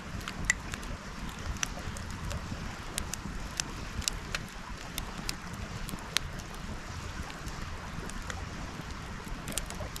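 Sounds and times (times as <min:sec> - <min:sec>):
fire crackling and popping: 0:00.0 - 0:10.0
low fire rumble: 0:00.0 - 0:10.0.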